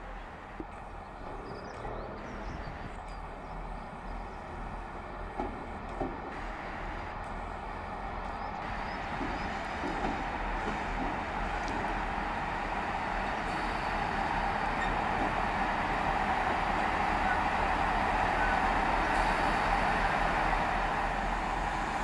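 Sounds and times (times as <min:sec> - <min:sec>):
train engine and wheels: 0:00.0 - 0:22.0.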